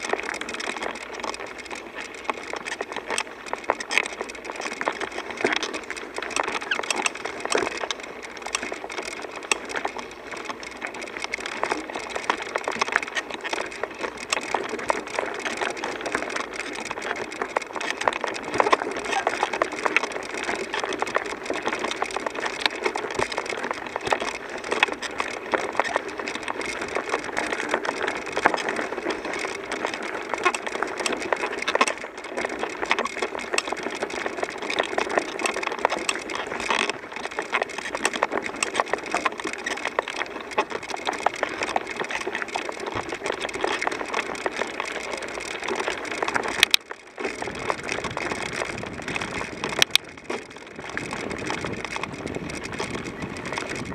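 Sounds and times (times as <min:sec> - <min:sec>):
crunching and rattling clicks: 0:00.0 - 0:53.9.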